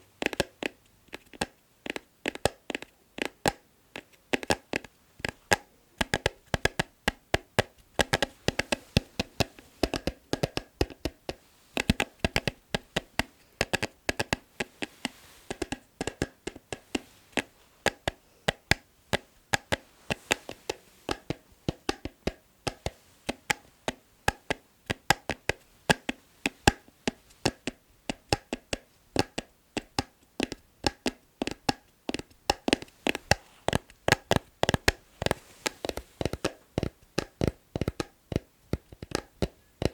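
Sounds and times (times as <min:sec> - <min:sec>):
fingertip tapping: 0:00.0 - 0:39.9.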